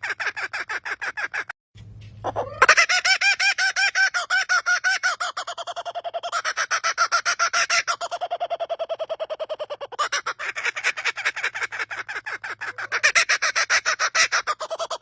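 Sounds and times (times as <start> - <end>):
bird laughter-like call: 2.2 - 15.0.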